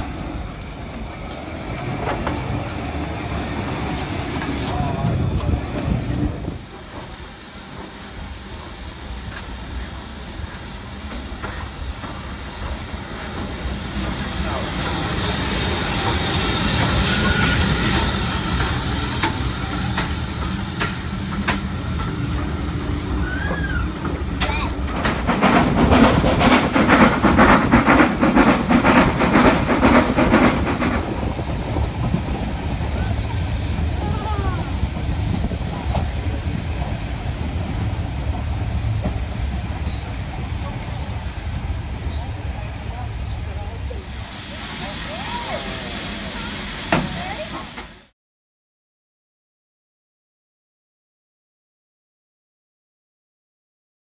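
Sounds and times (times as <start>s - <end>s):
locomotive low rumble: 0.0s - 47.8s
steam hissing: 0.0s - 48.1s
train running on rails: 0.0s - 48.1s.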